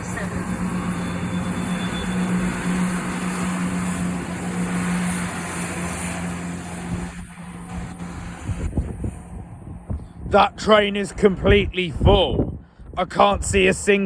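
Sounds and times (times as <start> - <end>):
train engine drone: 0.0 - 11.5.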